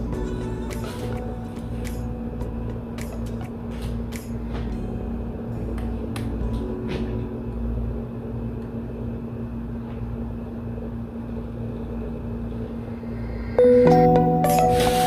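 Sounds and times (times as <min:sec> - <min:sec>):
steady low machine hum: 0:00.0 - 0:15.0.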